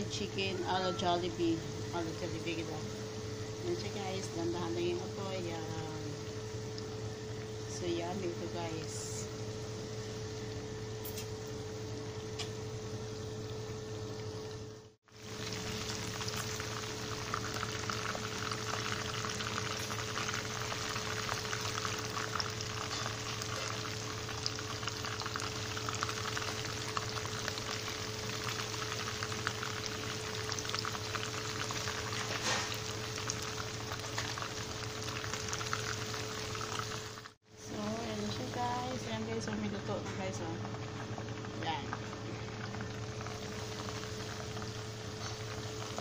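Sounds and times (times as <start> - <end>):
chicken deep-frying in oil: 0.0 - 46.0.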